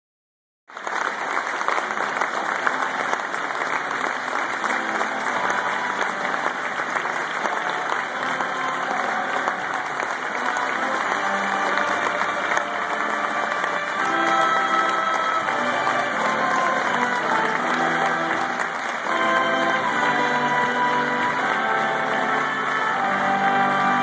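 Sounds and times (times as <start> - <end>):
crowd applauding: 0.7 - 24.0.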